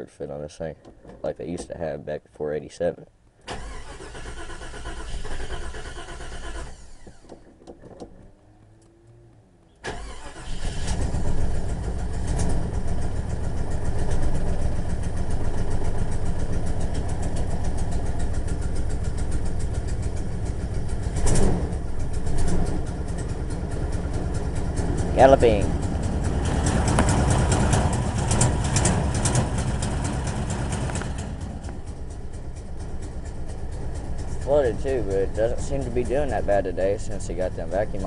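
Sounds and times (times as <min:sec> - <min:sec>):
engine starter cranking: 0:03.4 - 0:08.4, 0:09.8 - 0:38.0
engine idling unevenly: 0:03.6 - 0:38.0.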